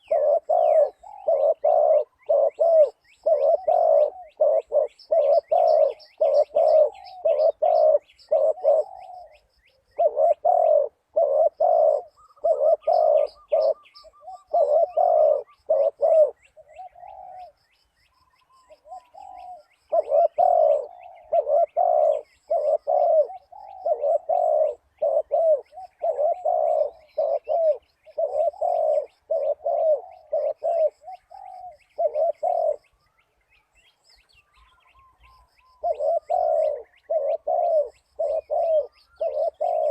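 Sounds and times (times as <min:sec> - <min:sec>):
dove cooing: 0:00.0 - 0:17.6, 0:18.2 - 0:33.1, 0:34.5 - 0:39.9
small birds chirping: 0:00.0 - 0:39.9.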